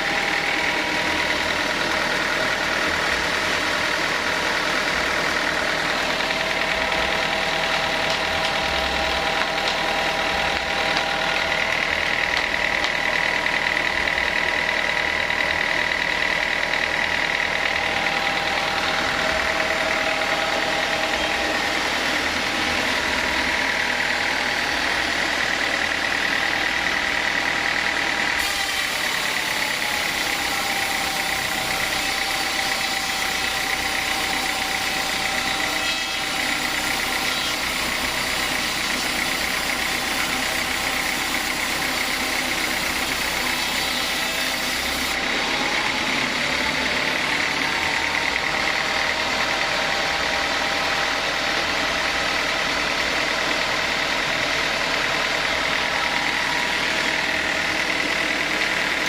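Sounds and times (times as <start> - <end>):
saw whining through wood: 0.0 - 59.0.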